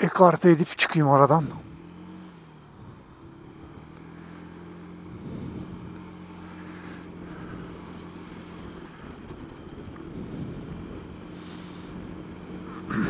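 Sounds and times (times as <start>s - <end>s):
scooter engine running: 1.0s - 13.0s.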